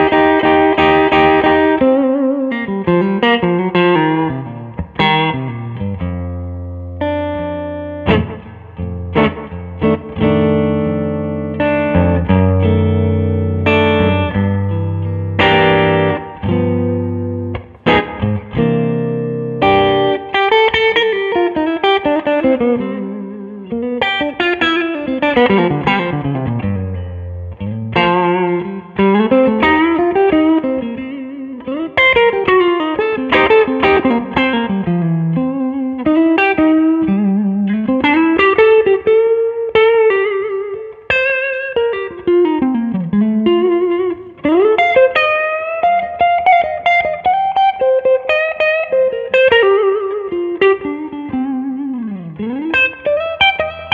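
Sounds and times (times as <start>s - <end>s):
electric blues guitar solo: 0.0s - 53.9s.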